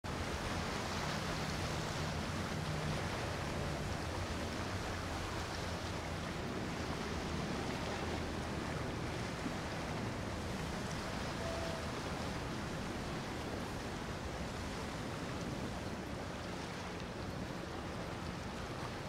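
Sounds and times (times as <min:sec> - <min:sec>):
boat engines humming: 0:00.0 - 0:19.0
wind and water noise: 0:00.0 - 0:19.0.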